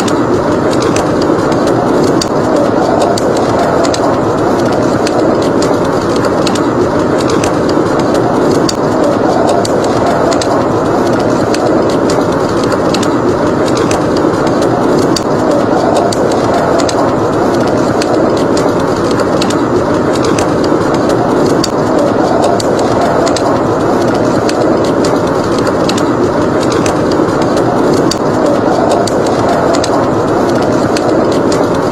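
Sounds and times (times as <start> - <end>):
howling blizzard wind: 0.0 - 31.9
wood fire crackling: 0.0 - 31.9.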